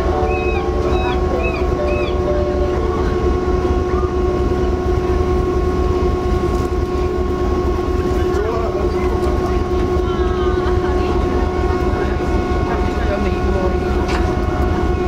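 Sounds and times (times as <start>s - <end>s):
ship engines rumbling: 0.0s - 15.0s.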